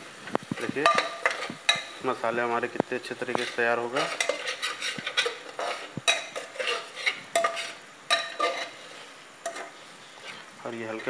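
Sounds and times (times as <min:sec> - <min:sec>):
spoon scraping a pot: 0:00.6 - 0:02.0, 0:03.2 - 0:11.0.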